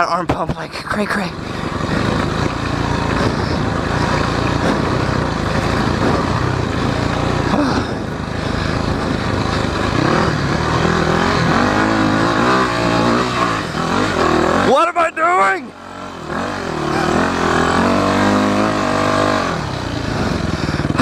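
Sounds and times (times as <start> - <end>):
dirt bike engine revving: 0.8 - 21.0.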